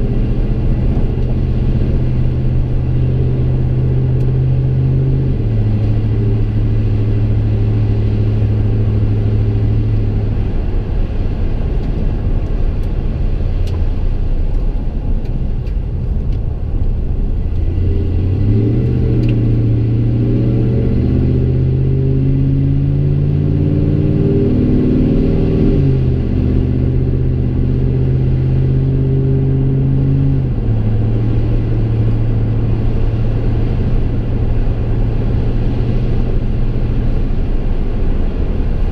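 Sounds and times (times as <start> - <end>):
truck engine droning: 0.0 - 38.9.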